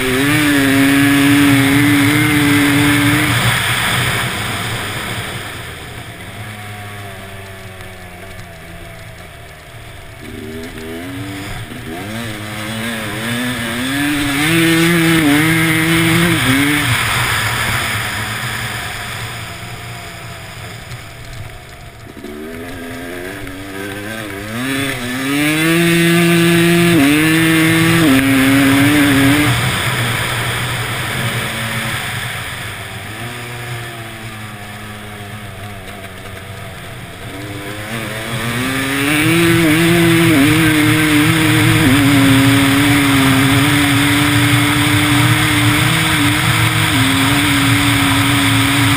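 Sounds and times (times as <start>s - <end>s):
dirt bike engine accelerating: 0.0s - 48.9s
steady rushing noise: 0.0s - 48.9s.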